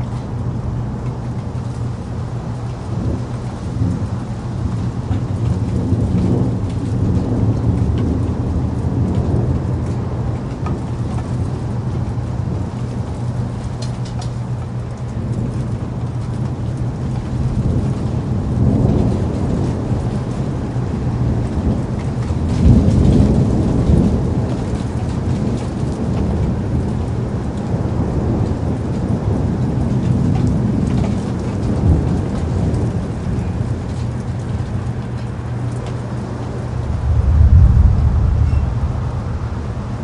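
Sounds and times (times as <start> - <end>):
rolling thunder rumble: 0.0 - 40.0
steady rain: 0.0 - 40.0.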